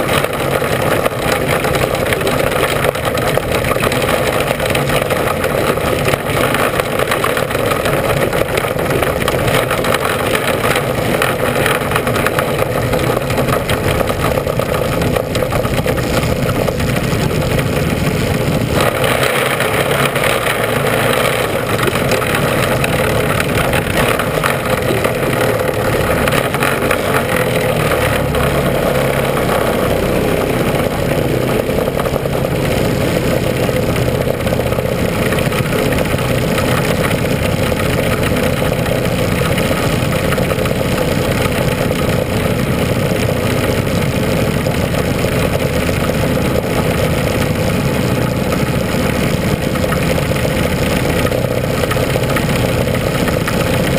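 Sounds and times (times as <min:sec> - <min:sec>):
race car engine drone: 0:00.0 - 0:53.9.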